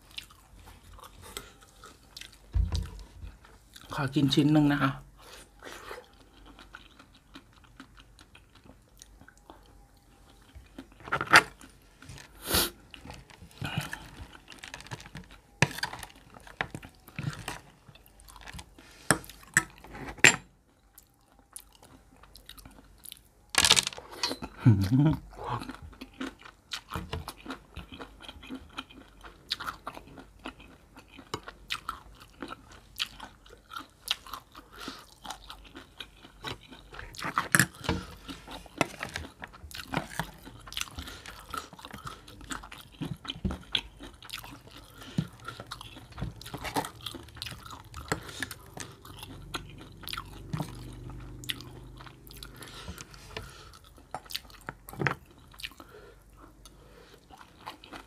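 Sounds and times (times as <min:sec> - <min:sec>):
wet chewing and crunching: 0:00.0 - 0:03.9, 0:05.4 - 0:19.9, 0:25.2 - 0:58.0.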